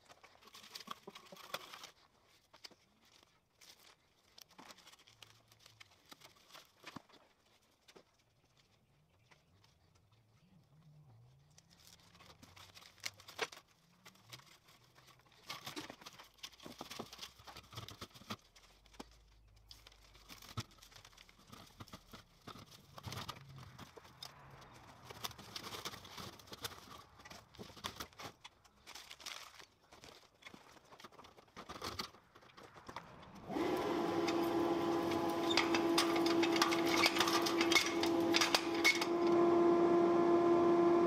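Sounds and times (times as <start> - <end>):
light clicks and crackles: 0.0 - 33.4
rustling and crinkling: 0.0 - 39.2.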